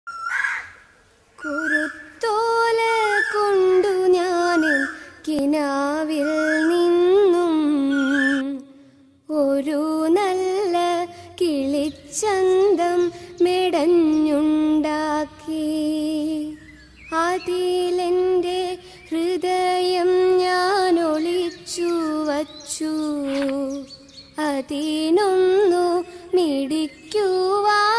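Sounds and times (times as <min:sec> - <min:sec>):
woman singing: 0:01.4 - 0:27.9.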